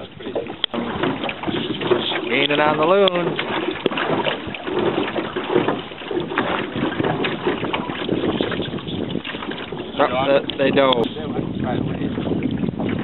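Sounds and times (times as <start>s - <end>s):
water slapping boat hull: 0.0s - 13.0s
wind buffeting microphone: 0.0s - 13.0s.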